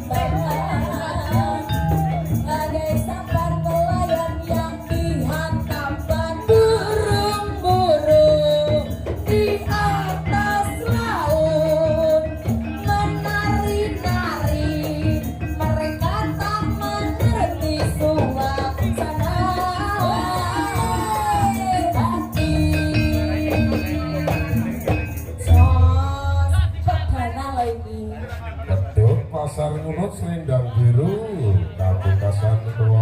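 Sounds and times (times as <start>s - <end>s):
person singing: 0.0s - 28.5s
steady drum beat: 0.0s - 31.0s
live band music: 0.0s - 33.0s.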